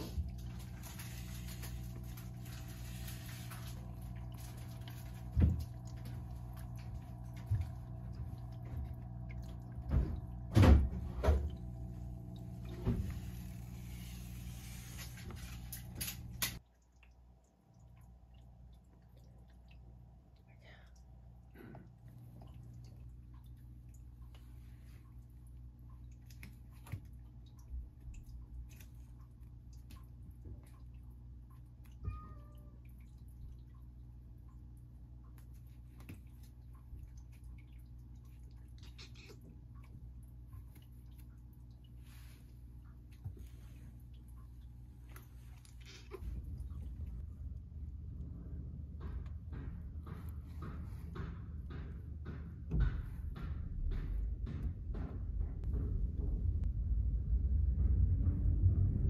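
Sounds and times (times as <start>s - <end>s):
pet water fountain humming: 0.0s - 54.6s.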